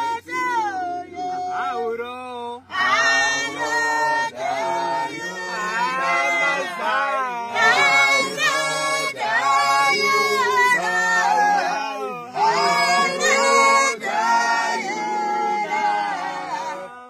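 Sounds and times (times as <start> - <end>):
voices singing gliding melody: 2.6 - 17.0.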